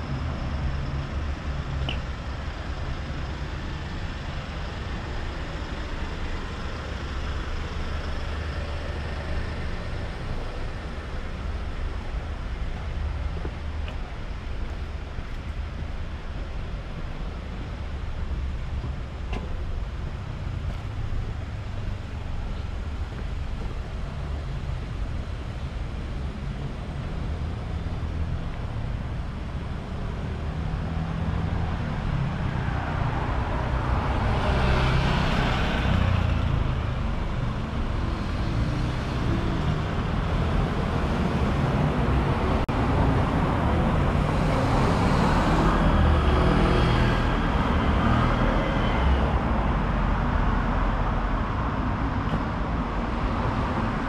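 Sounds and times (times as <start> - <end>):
steady low traffic rumble: 0.0 - 54.0
vehicles passing close by: 0.0 - 54.0.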